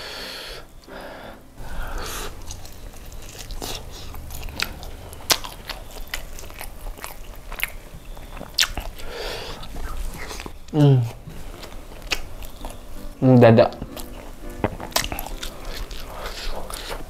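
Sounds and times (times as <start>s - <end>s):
chewing crispy fried chicken: 1.6s - 17.0s.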